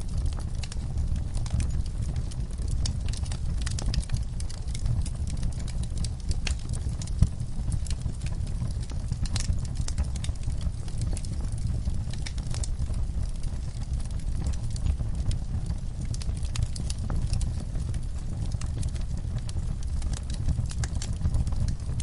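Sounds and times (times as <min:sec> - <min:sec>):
burning wood crackling and popping: 0:00.0 - 0:22.0
low rumble of flame: 0:00.0 - 0:22.0.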